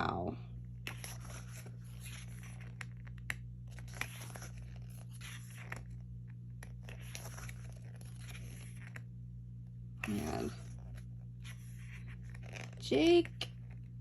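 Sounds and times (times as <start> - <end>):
low hum: 0.0 - 14.0
paper pages rustling: 0.8 - 9.1, 10.0 - 13.9.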